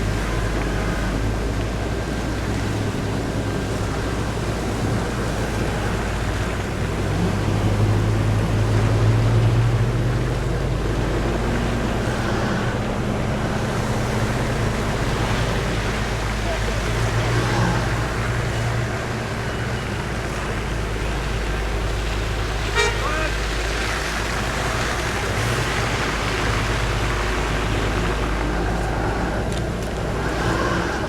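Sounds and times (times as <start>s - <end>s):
low engine sound: 0.0s - 31.0s
vehicle traffic: 0.0s - 31.0s.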